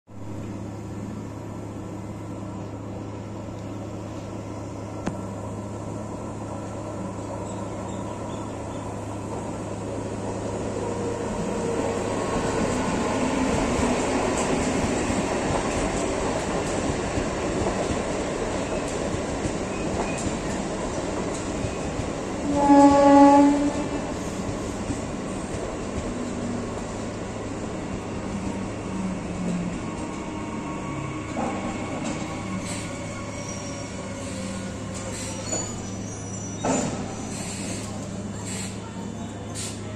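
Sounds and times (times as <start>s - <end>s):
train wheel and rail rumble: 0.1s - 39.9s.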